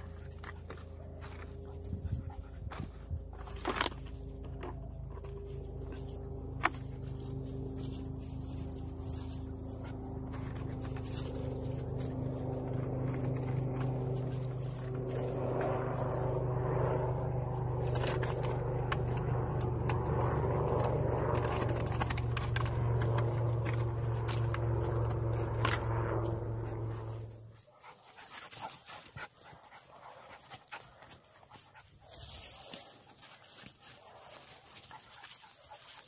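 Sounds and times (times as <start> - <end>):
constant tones: 0.0 - 36.0
low engine-like hum: 0.0 - 36.0
puppies rustling through dry leaves: 0.0 - 36.0.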